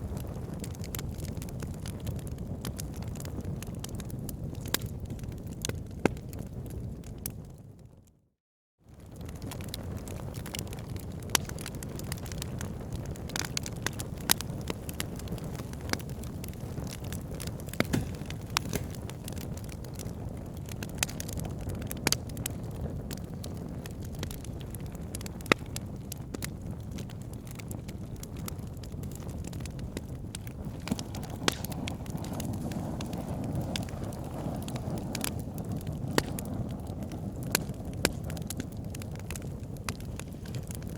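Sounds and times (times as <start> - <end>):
wood fire crackling and popping: 0.0 - 7.7, 8.9 - 40.9
low rumble of flames: 0.0 - 8.2, 8.9 - 40.9.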